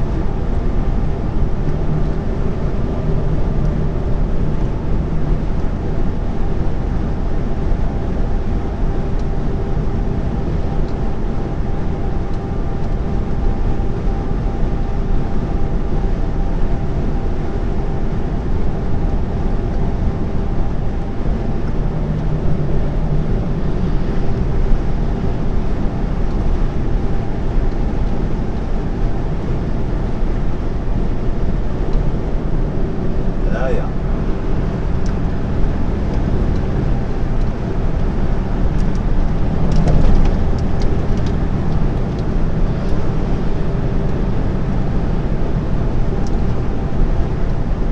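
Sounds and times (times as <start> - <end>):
lorry engine and road noise: 0.0 - 47.9.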